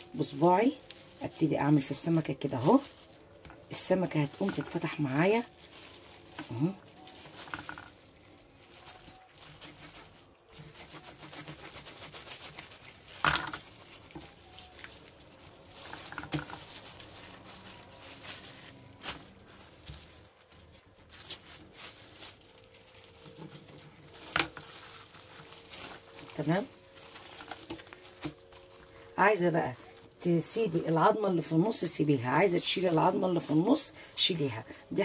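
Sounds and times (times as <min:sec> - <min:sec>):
wet handling of raw fish: 0:00.0 - 0:30.2.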